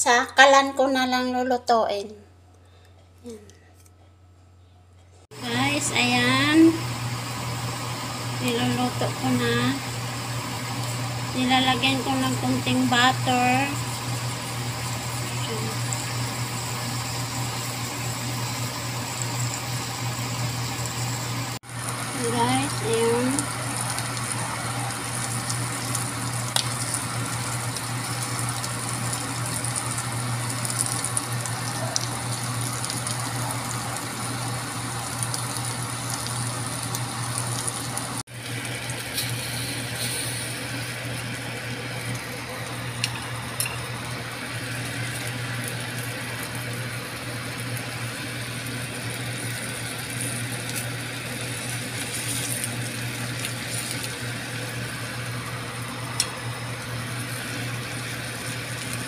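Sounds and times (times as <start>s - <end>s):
constant low hum: 0.0s - 59.0s
mussels sizzling on grill pan: 5.4s - 59.0s.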